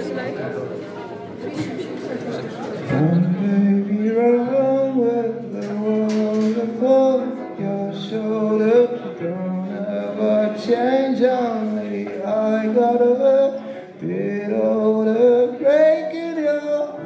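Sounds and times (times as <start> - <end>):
man singing into microphone: 2.8 - 17.0.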